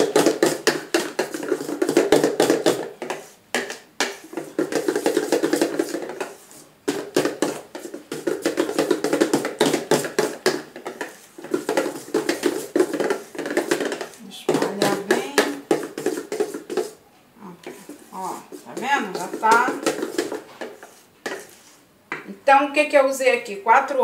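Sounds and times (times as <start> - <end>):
whisk beating batter in metal bowl: 0.0 - 17.0, 17.8 - 21.7.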